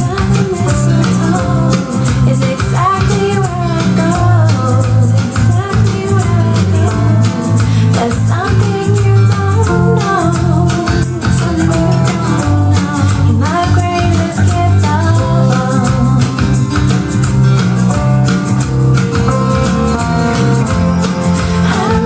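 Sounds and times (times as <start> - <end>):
person singing: 0.0 - 22.0
plucked guitar: 0.0 - 22.0
repeating bass line: 0.0 - 22.0.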